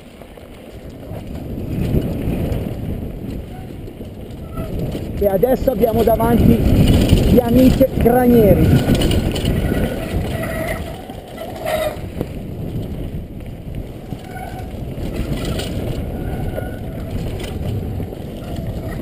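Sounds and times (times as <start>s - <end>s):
tyres rumbling over dirt: 0.0s - 19.0s
wind rushing over camera: 0.0s - 19.0s.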